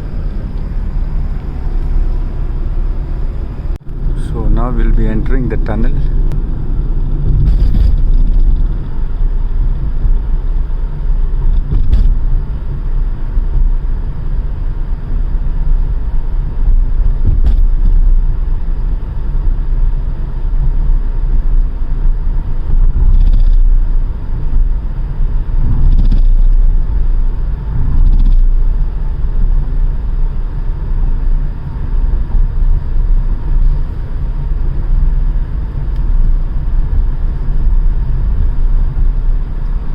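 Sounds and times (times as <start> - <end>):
car road rumble in tunnel: 0.0 - 39.9.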